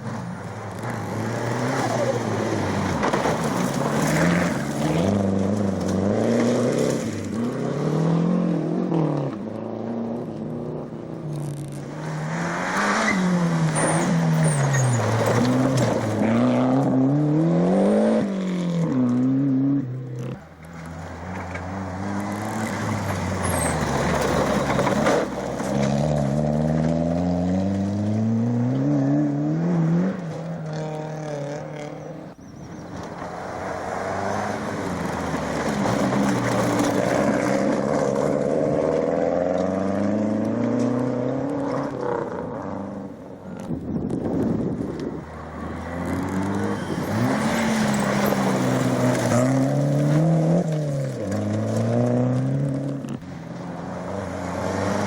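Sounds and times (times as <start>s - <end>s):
rally car engines at full throttle: 0.0s - 55.0s.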